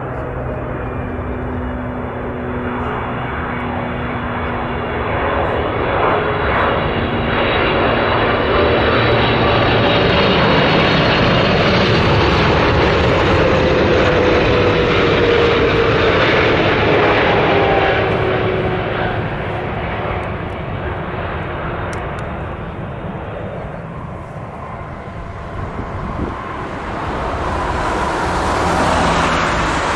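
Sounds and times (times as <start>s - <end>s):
jet airliner engines passing: 0.0s - 29.9s.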